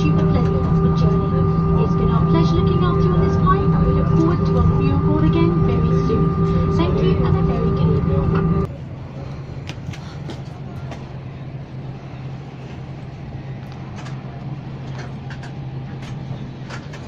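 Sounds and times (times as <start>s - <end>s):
airliner cabin hum: 0.0s - 17.0s.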